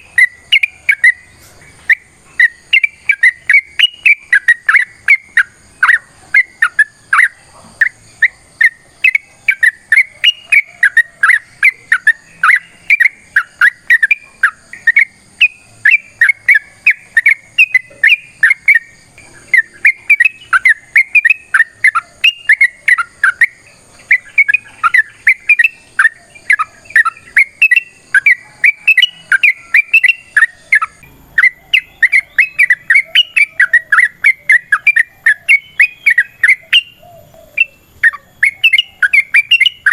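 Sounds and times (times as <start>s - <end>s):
bulbul singing chirping notes: 0.0s - 39.9s.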